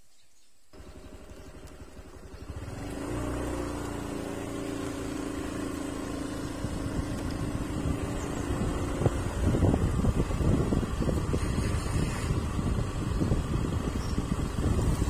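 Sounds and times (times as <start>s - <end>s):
motorbike engine running: 0.8s - 15.0s.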